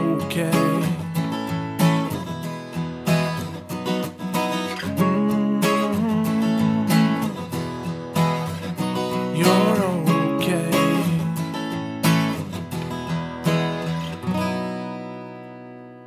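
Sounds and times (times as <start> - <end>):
strummed acoustic guitar music: 0.0 - 16.0.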